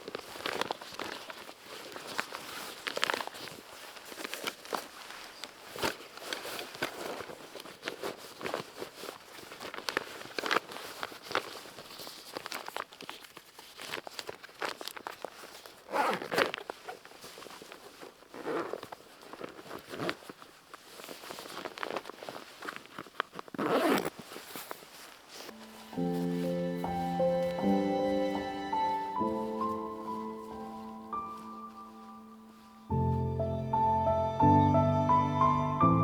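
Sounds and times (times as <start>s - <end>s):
rustling and handling noises: 0.0s - 33.7s.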